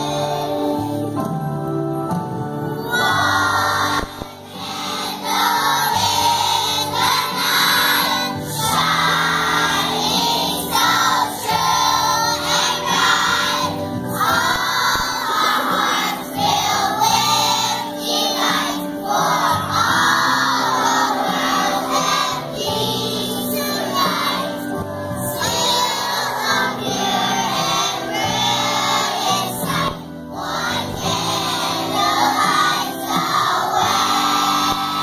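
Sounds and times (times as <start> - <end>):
children's choir singing: 0.0 - 35.0
instrumental accompaniment: 0.0 - 35.0.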